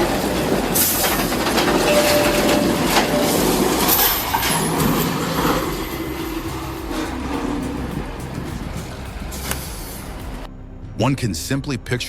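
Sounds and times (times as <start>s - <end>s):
metal clanking: 0.0s - 10.0s
tracked machinery rumble: 0.0s - 11.0s.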